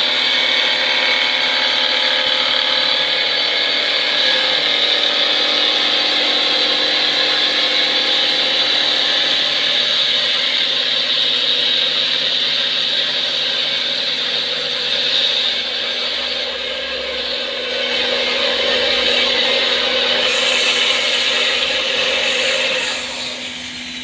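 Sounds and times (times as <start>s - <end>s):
cutter hissing on wood: 0.0s - 24.0s
wood lathe machine whine: 0.0s - 24.0s.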